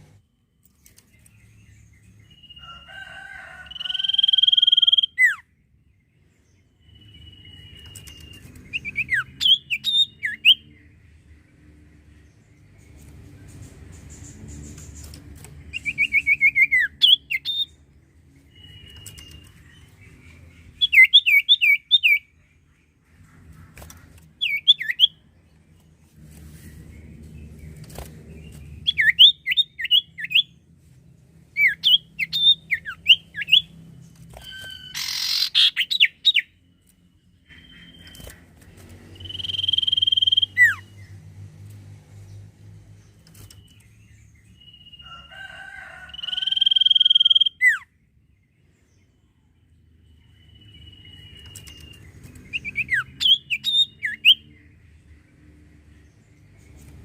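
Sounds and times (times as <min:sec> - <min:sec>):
bird chirping: 0:00.0 - 0:03.0, 0:03.6 - 0:57.0.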